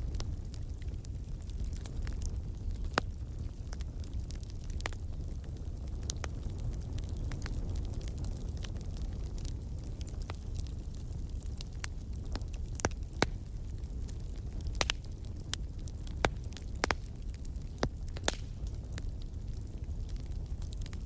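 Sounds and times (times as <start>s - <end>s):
burning wood crackling and popping: 0.0s - 21.0s
low rumble of flames: 0.0s - 21.0s.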